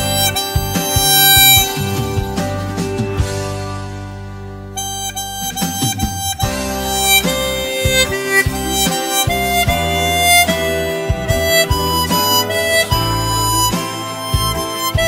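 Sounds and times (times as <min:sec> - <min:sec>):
harmonica melody: 0:00.0 - 0:15.0
low plucked accompaniment: 0:00.0 - 0:15.0.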